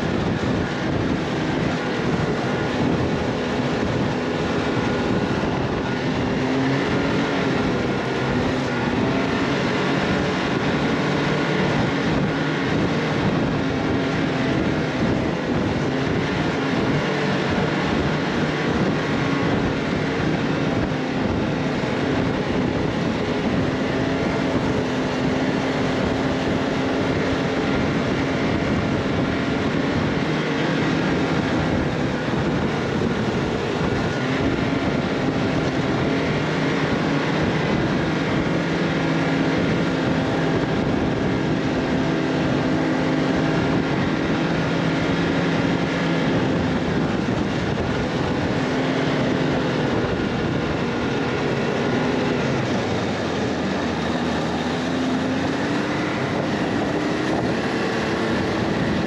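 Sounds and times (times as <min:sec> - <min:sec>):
steady rushing noise: 0:00.0 - 0:59.0
vehicle engine humming: 0:00.0 - 0:59.0.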